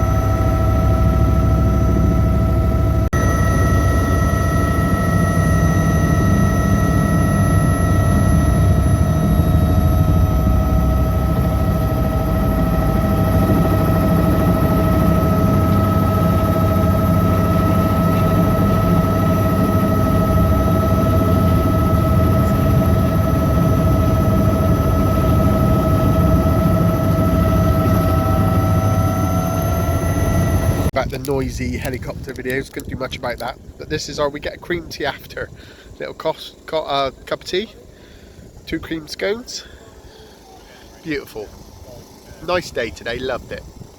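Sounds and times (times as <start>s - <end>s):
helicopter rotor and engine rumble: 0.0s - 43.9s
high turbine whine: 0.0s - 43.9s.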